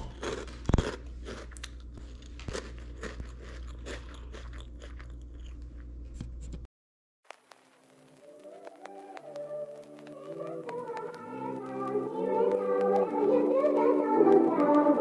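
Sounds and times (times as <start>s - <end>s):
cereal being chewed: 0.0s - 6.0s, 8.3s - 15.0s.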